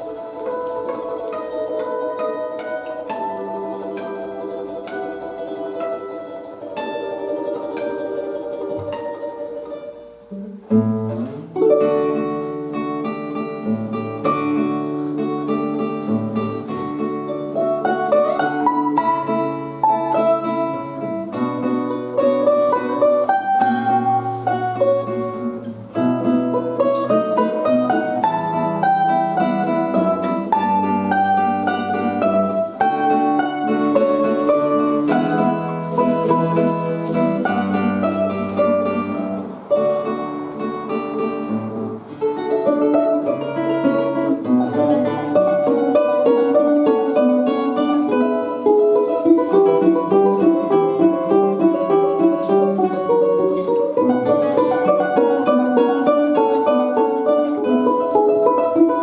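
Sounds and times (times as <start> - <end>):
held lower accompaniment notes: 0.0 - 59.0
plucked string instrument melody: 0.0 - 59.0.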